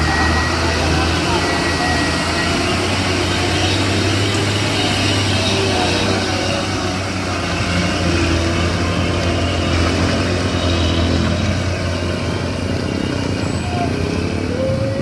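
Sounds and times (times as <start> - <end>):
heavy vehicle engine droning: 0.0 - 15.0.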